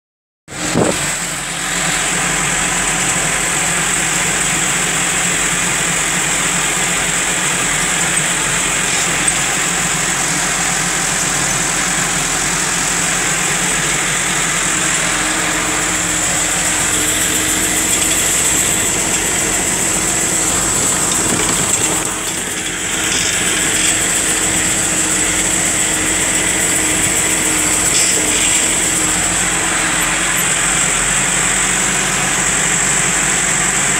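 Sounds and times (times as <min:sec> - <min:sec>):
tractor diesel engine running: 0:00.5 - 0:33.9.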